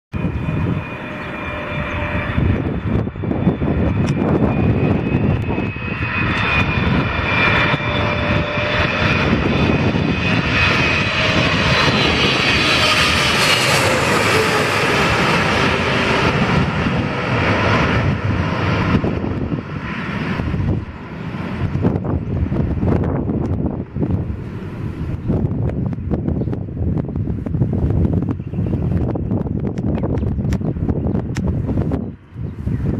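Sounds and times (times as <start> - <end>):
broad aircraft rumble: 0.1 - 32.9
jet engine whine: 0.1 - 32.9.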